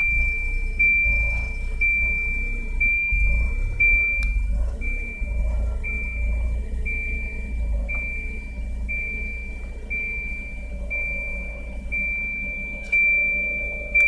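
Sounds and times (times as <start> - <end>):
electronic warning beep: 0.0 - 14.0
low uneven rumble: 0.0 - 14.0.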